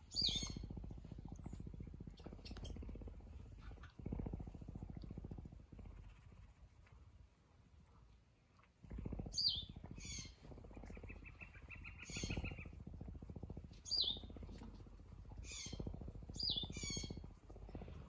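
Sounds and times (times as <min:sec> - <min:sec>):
small birds chirping: 0:00.0 - 0:06.4, 0:08.5 - 0:18.0
mountain lion purring: 0:00.0 - 0:18.0.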